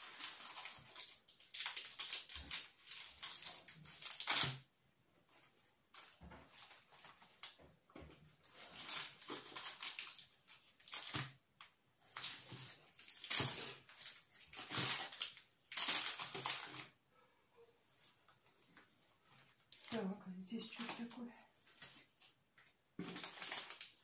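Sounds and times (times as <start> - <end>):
packaging rustling and crinkling: 0.0 - 4.7, 5.3 - 7.6, 8.2 - 11.4, 12.0 - 17.0, 18.0 - 22.4, 23.0 - 24.0.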